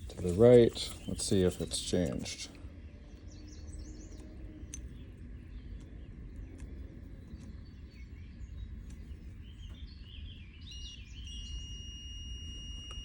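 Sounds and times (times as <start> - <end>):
birds chirping: 0.0 - 13.0
low background rumble: 0.0 - 13.0.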